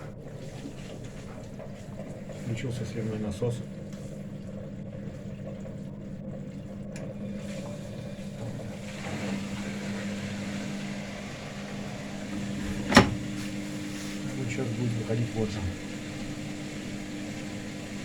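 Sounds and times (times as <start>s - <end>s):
washing machine drain pump humming: 0.0s - 18.0s.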